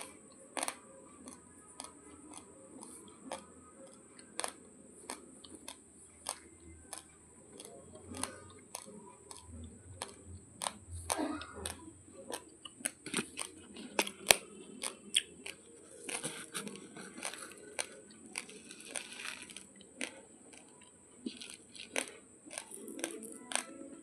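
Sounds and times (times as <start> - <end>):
rice grains crunching in chewing: 0.0 - 24.0.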